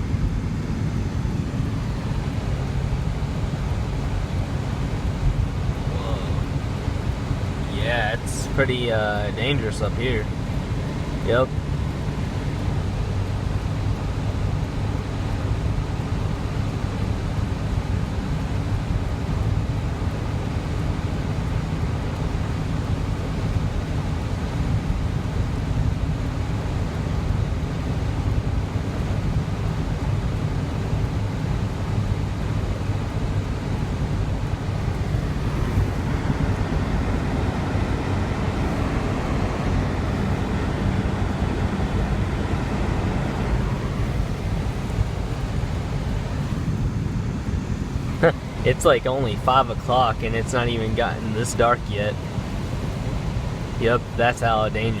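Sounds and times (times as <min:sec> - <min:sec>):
engine and road hum: 0:00.0 - 0:55.0.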